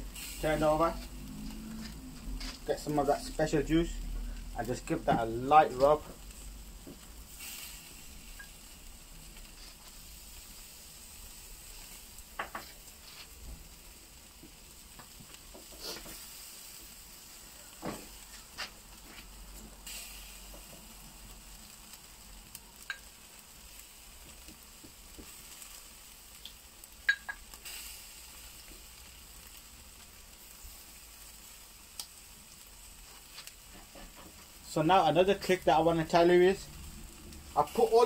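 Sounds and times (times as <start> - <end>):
meat sizzling on grill: 0.0 - 38.0.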